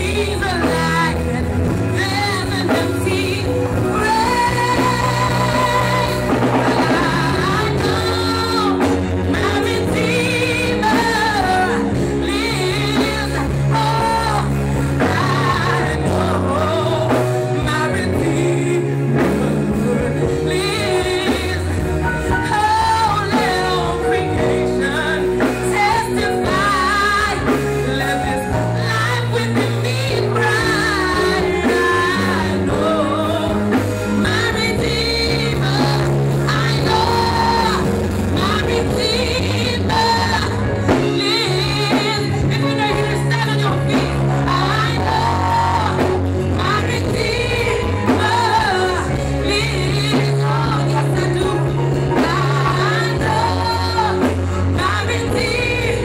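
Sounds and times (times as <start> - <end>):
instrumental accompaniment with bass: 0.0 - 56.0
woman singing into microphone: 0.0 - 56.0.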